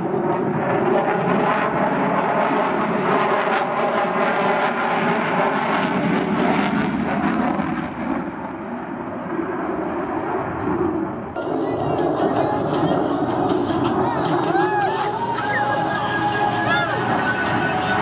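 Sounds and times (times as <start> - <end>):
jet engine roar with crackle: 0.0 - 18.0.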